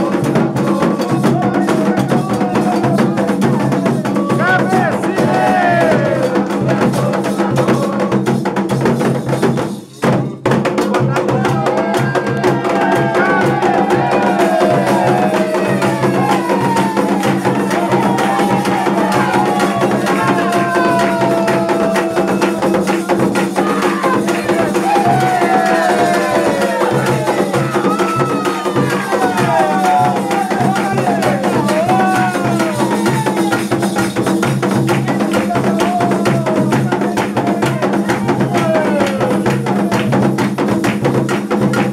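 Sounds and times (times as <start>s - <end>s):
voices singing: 0.0s - 8.6s, 10.9s - 40.8s
drums: 0.0s - 41.9s
wood block percussion: 0.0s - 41.9s.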